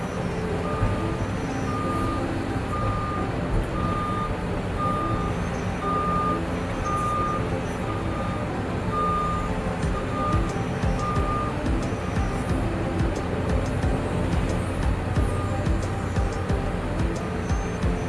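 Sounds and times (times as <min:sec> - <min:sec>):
diesel engine running: 0:00.0 - 0:18.0
reversing alarm beeping: 0:00.0 - 0:18.0.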